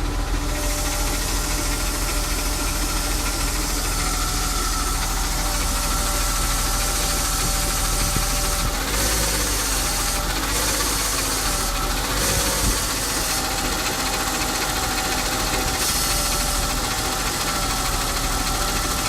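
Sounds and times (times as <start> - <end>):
car engine running: 0.0 - 19.0
engine rattling noise: 0.0 - 19.0.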